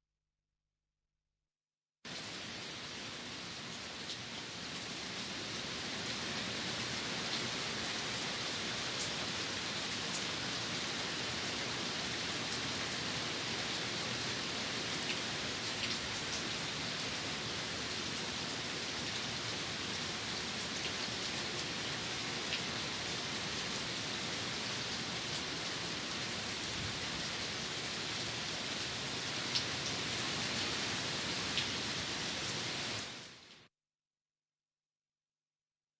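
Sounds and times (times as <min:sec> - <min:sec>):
steady rain hiss: 0:02.1 - 0:33.7.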